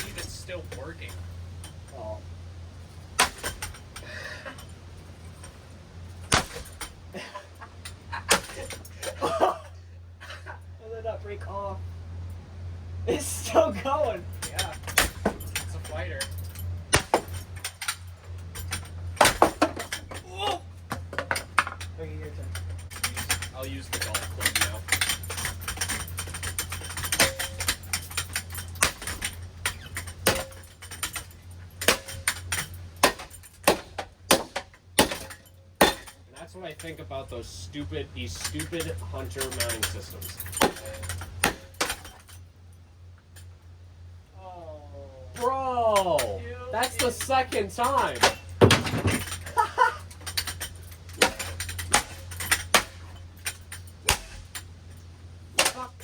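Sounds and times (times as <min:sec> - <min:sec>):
loose metal parts rattling: 0:00.0 - 0:10.7, 0:11.8 - 0:44.3, 0:45.4 - 0:56.0
fan motor humming: 0:00.0 - 0:56.0.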